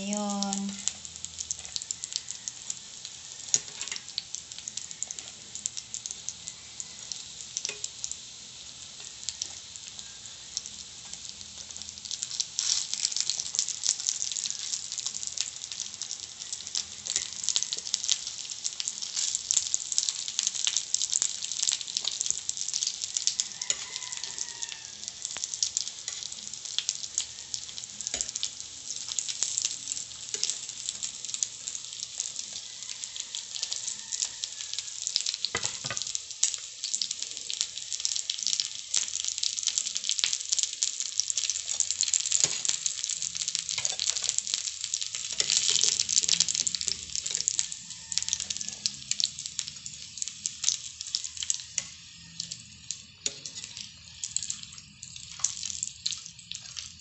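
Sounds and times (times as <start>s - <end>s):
chicken nuggets sizzling in oil: 0.0s - 57.0s.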